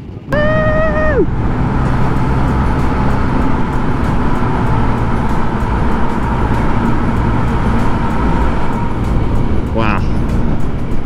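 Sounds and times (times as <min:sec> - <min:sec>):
road and wind noise: 0:00.0 - 0:11.0
scooter engine running: 0:00.0 - 0:11.0.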